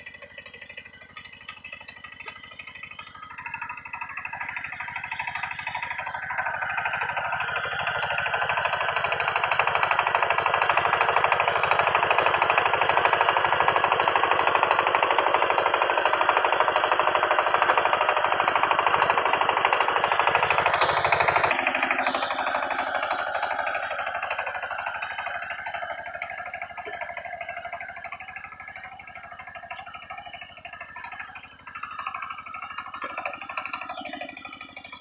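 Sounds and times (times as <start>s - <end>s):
diesel engine chugging: 0.0s - 35.0s.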